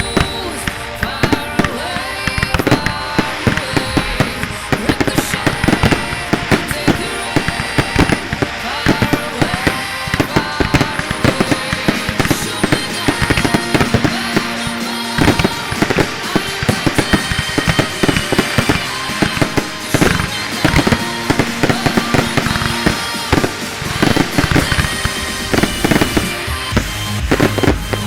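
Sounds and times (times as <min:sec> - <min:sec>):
electronic dance-pop music: 0:00.0 - 0:28.0
fireworks bangs and crackles: 0:00.0 - 0:28.0.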